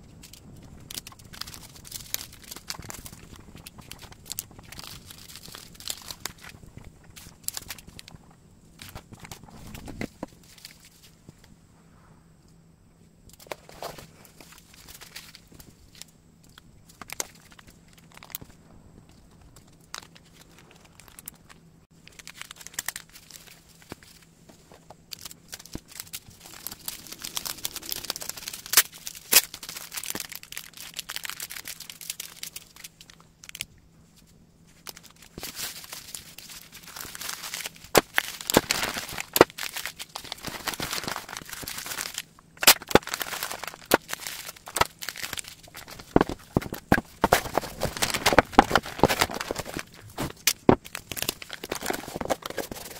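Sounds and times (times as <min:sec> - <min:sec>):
plastic bags crinkling: 0:00.2 - 0:08.2, 0:13.4 - 0:33.7, 0:34.7 - 0:52.9.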